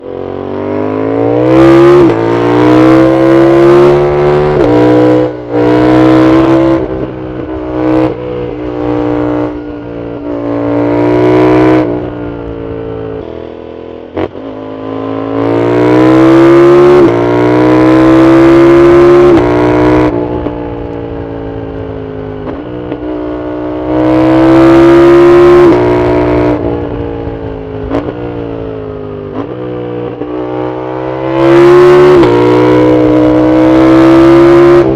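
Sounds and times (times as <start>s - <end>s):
motorcycle engine accelerating hard: 0.0s - 34.9s.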